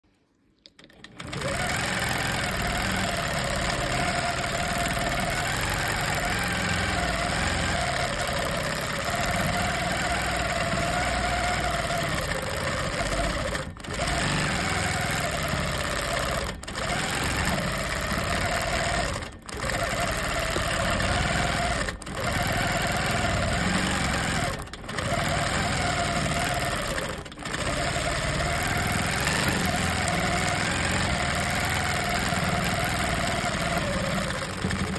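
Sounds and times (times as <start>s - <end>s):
quilting machine stitching: 0.7s - 34.9s.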